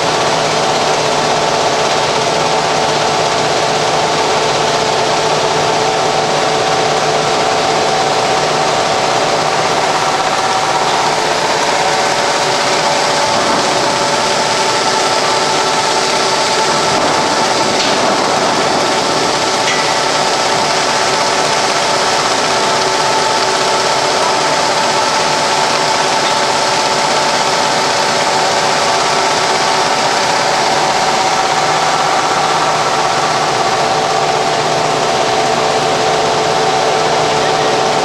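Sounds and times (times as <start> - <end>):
packaging machine humming: 0.0 - 38.0.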